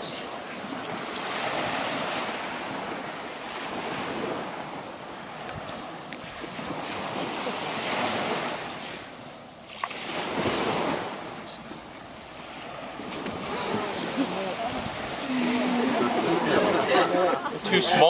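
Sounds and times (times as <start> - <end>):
surf washing onto shore: 0.0 - 18.0.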